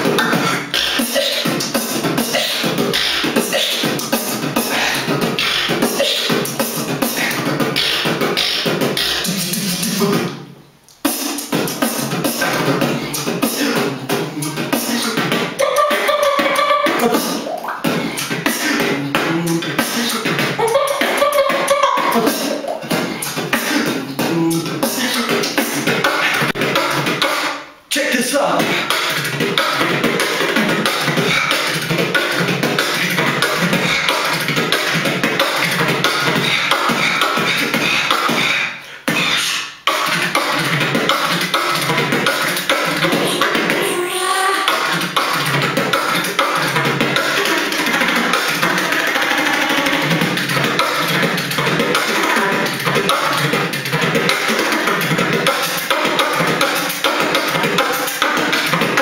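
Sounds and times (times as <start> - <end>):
person beatboxing: 0.0 - 59.0.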